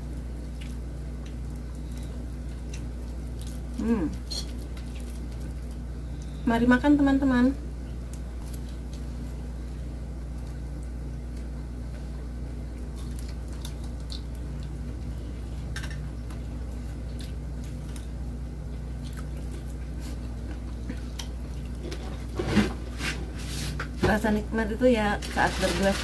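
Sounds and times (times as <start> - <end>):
people chewing food: 0.0 - 6.5, 7.8 - 24.0
steady low hum: 0.0 - 26.0.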